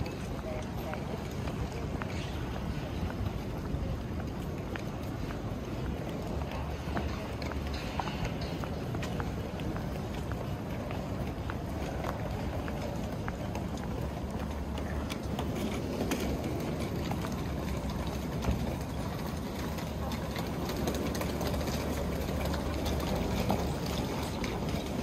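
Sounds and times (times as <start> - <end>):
suitcase wheels clattering: 0.0 - 25.0.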